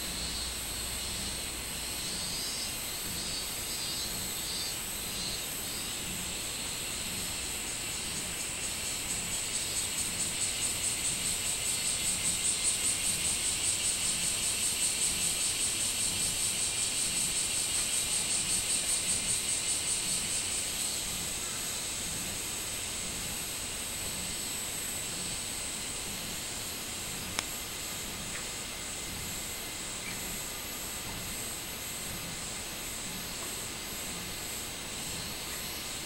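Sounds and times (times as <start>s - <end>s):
cicada pulsing call: 0.0s - 36.0s
high insect drone: 0.0s - 36.0s.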